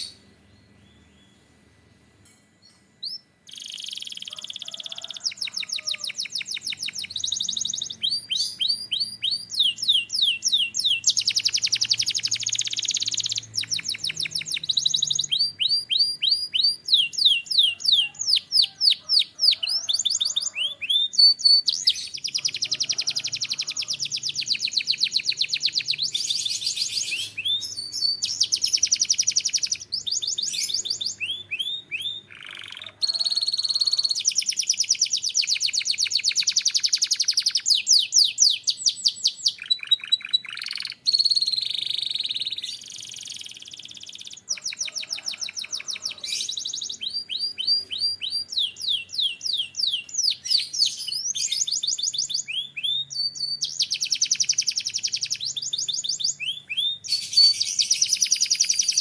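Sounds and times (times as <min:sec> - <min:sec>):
canary singing: 0:00.0 - 0:01.6, 0:02.6 - 0:59.0.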